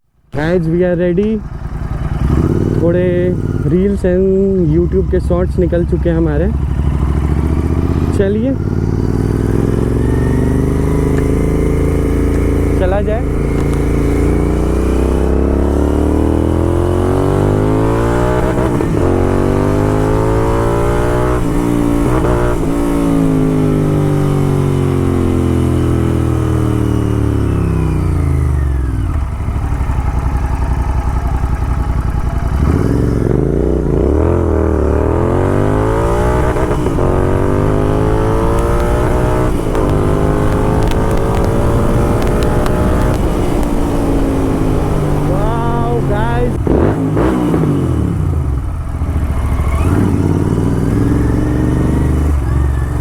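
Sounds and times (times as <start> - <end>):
motorcycle accelerating through gears: 1.0 - 53.0.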